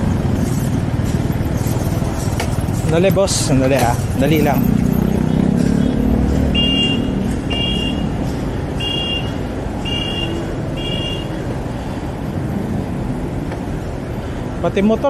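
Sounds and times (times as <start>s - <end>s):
traffic: 0.0s - 15.0s.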